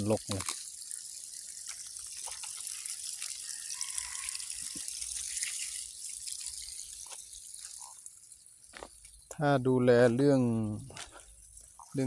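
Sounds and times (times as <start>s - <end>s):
garden hose spraying water: 0.0s - 12.0s.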